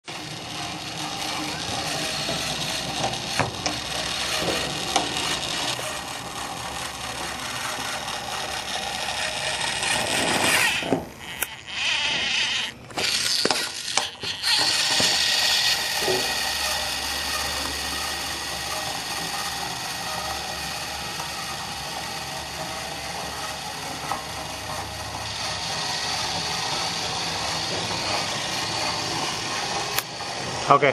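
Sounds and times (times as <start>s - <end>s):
toy train motor whirring: 0.0s - 30.9s.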